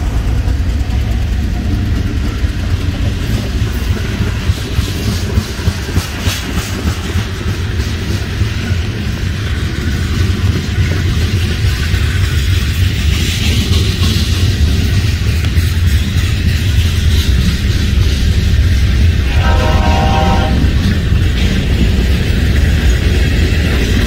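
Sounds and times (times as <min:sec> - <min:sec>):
diesel locomotive rumble: 0:00.0 - 0:24.0
train wheels clacking over rail joints: 0:00.0 - 0:24.0.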